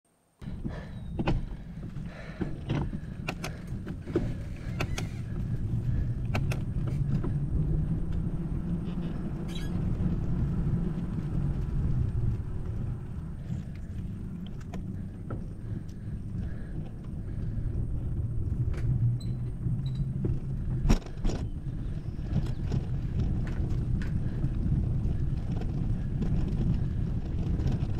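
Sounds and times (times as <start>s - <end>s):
bicycle rolling on concrete: 0.4s - 27.9s
bike clicks and rattles: 0.4s - 27.9s.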